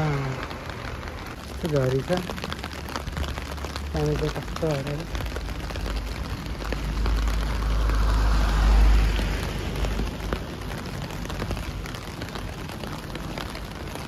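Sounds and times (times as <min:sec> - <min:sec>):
rain on plastic umbrella: 0:00.0 - 0:14.0.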